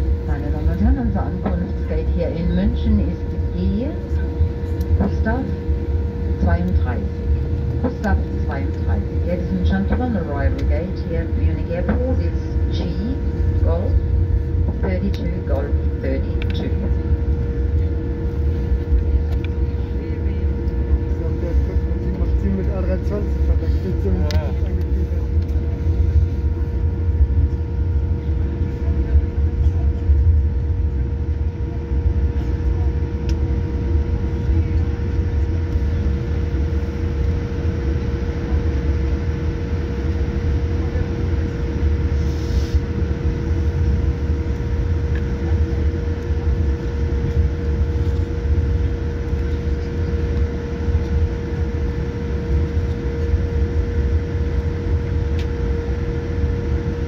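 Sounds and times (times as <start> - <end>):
aircraft engines idling rumble: 0.0 - 57.0
steady cabin hum: 0.0 - 57.0.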